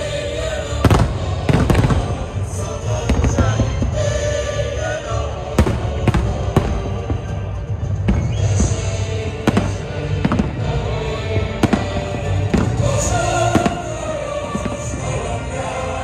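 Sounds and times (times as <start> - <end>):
fireworks bursting with sharp bangs: 0.0 - 16.0
music: 0.0 - 16.0.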